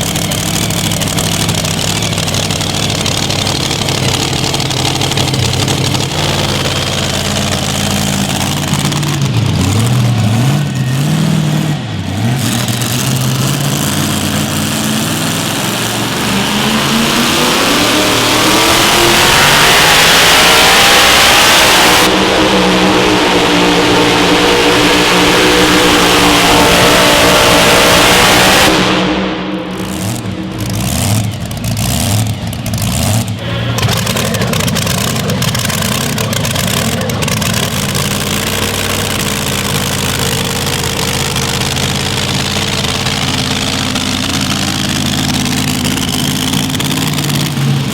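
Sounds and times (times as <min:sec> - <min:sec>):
engine revving loud and hard: 0:00.0 - 0:47.9.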